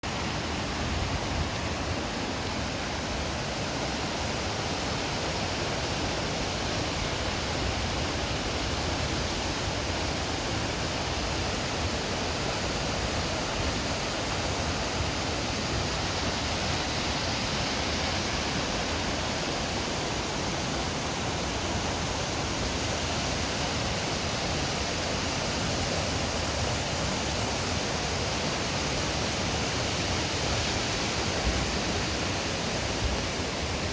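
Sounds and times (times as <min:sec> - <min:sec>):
waterfall roar: 0:00.0 - 0:33.9.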